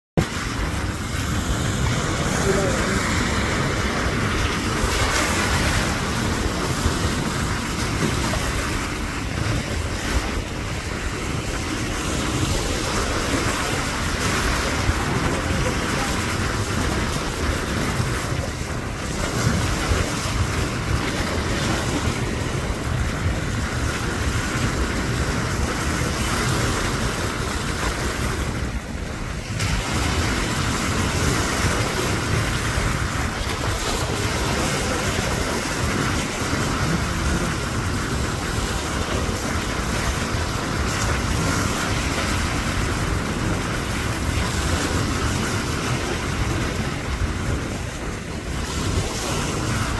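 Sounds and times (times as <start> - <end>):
choppy waves: 0.2 - 49.9
wind buffeting microphone: 0.2 - 49.9.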